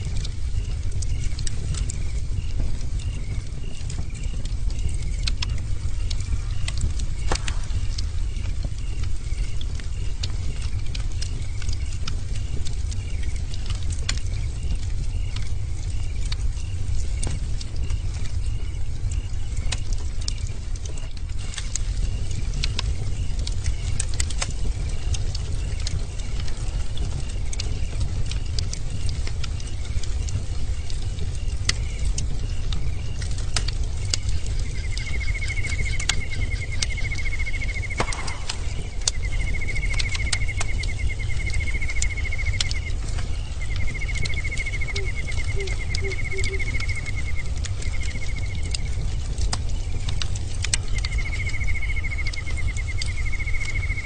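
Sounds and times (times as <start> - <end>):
bonfire crackling and popping: 0.0 - 54.0
low rumble of flames: 0.0 - 54.0.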